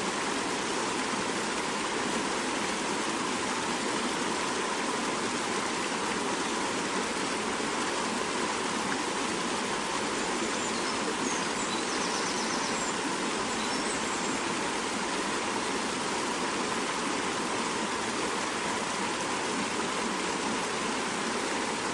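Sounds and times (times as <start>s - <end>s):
fast river rushing: 0.0s - 21.9s.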